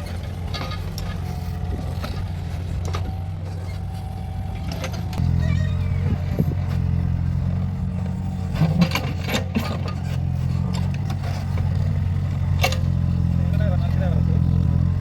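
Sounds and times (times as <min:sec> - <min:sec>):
knocks and scrapes: 0:00.0 - 0:13.1
excavator engine running: 0:00.0 - 0:15.0.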